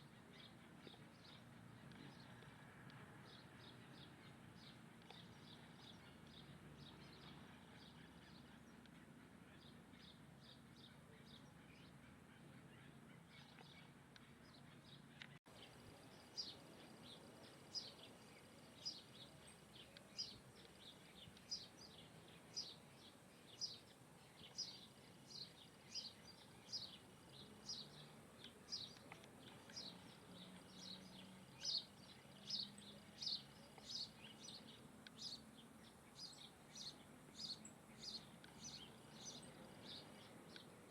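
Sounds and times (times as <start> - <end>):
bird chirping: 3.2 - 40.9.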